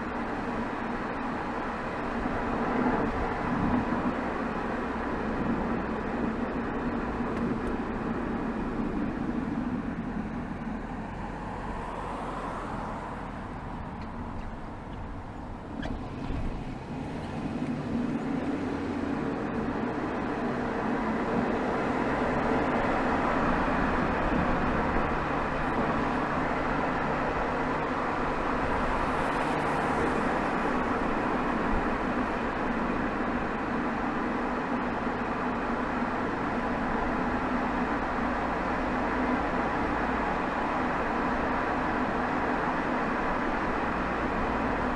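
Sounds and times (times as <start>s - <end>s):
diesel car exhaust while driving: 0.0s - 44.9s.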